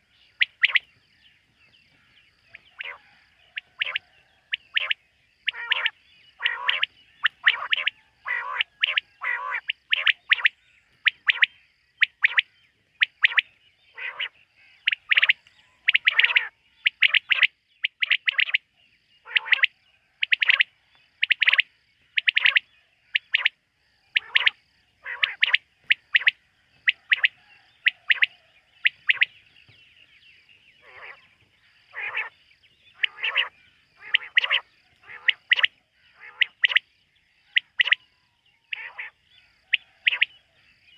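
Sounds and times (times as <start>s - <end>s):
quail calling: 0.0s - 0.9s, 2.0s - 18.6s, 19.2s - 23.5s, 24.1s - 29.4s, 30.8s - 36.9s, 37.5s - 38.1s, 38.7s - 40.5s.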